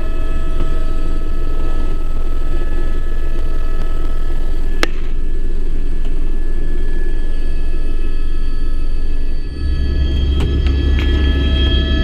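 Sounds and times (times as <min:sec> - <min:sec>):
helicopter turbine and rotor rumble: 0:00.0 - 0:12.0.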